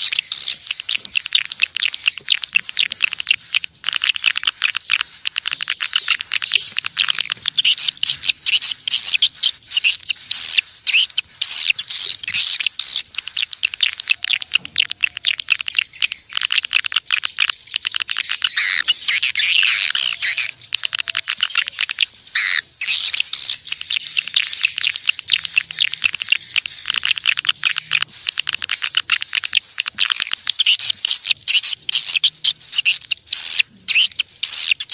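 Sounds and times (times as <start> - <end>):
swiftlets chirping: 0.0 - 34.9.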